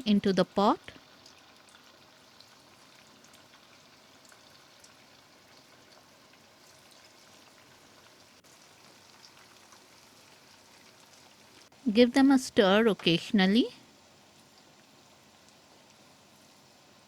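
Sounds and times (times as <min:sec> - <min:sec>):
fish frying in oil: 0:00.0 - 0:17.0.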